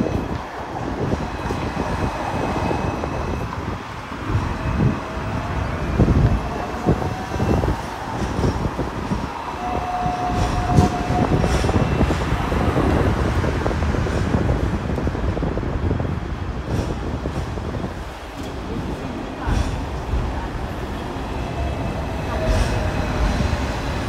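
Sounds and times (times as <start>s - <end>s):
tram rumbling and rattling: 0.0s - 24.0s
tram whine: 0.0s - 24.0s.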